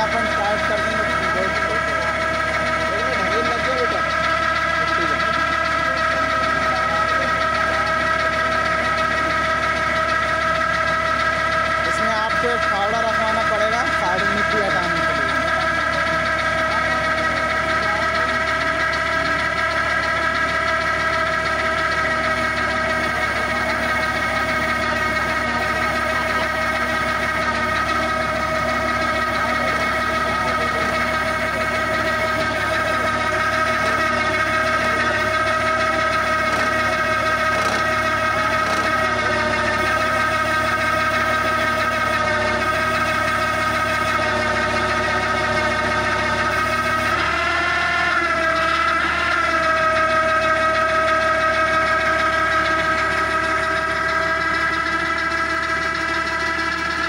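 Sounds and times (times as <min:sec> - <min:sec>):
auger boring into soil: 0:00.0 - 0:57.0
steady whine: 0:00.0 - 0:57.0
tractor engine running: 0:00.0 - 0:57.0.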